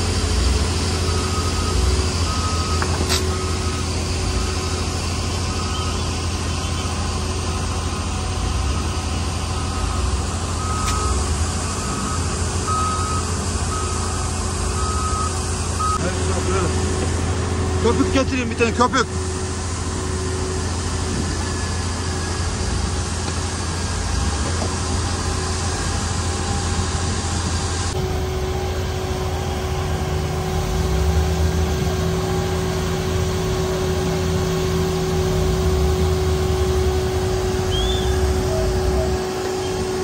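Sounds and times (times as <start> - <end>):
truck engine and pump droning: 0.0 - 40.0.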